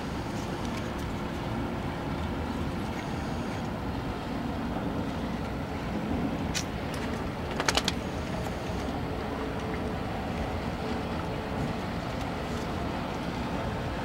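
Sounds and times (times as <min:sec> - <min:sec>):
outboard motor drone: 0:00.0 - 0:14.0.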